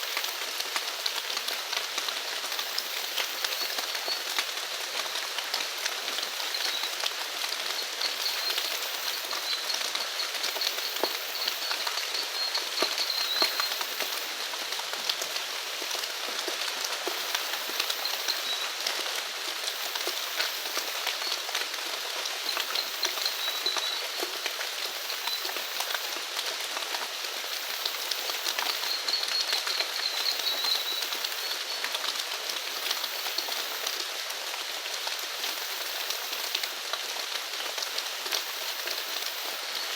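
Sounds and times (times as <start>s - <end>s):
raindrops ticking on surface: 0.0s - 39.9s
steady rain falling: 0.0s - 39.9s.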